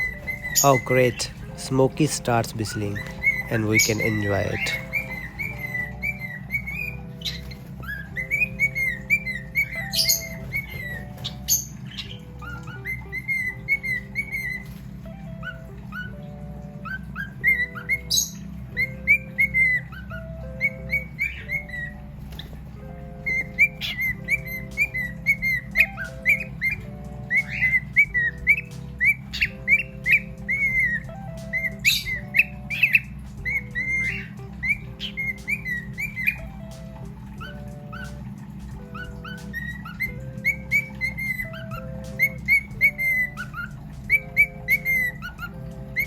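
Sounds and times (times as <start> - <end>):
sharp bird chirps: 0.0 - 22.6, 23.2 - 46.0
background music of held tones: 0.0 - 46.0
cockatiel whistling: 0.0 - 46.0.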